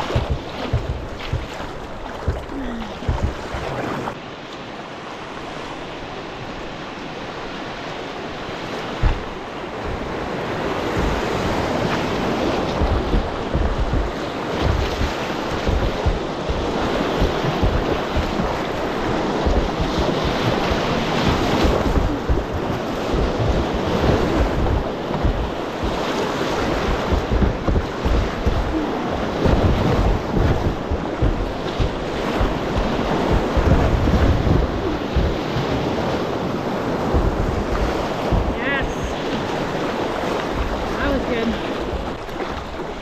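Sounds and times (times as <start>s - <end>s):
wind buffeting microphone: 0.0s - 4.2s, 6.1s - 43.0s
whitewater rushing and splashing: 0.0s - 43.0s.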